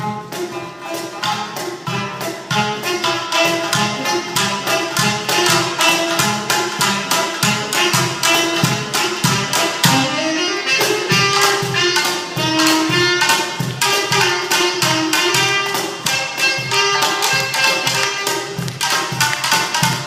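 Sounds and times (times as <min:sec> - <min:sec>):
percussion: 0:00.0 - 0:20.0
plucked shamisen strokes: 0:00.0 - 0:20.0
saxophone melody: 0:01.9 - 0:18.6.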